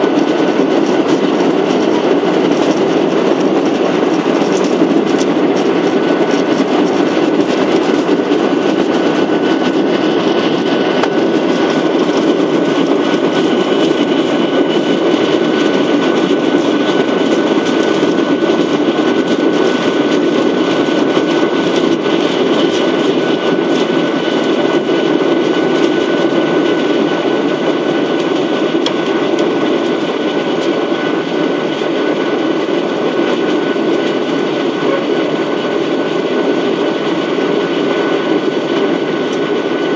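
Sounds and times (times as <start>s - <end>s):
jet engines whining at low power: 0.0s - 39.9s.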